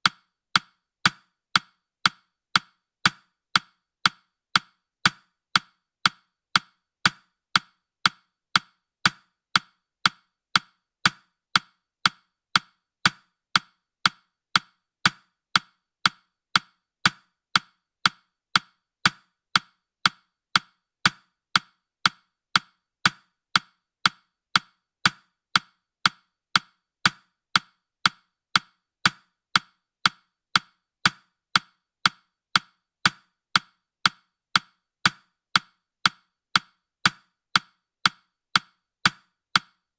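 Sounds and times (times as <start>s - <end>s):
timer ticking clicks: 0.0s - 39.9s.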